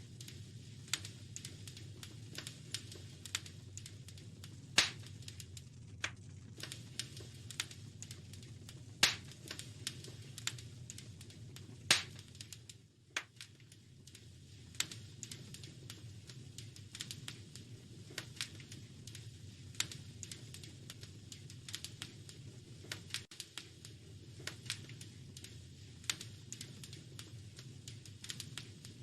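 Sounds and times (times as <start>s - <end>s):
wood fire crackling: 0.0s - 29.0s
loud fire pops: 0.1s - 29.0s.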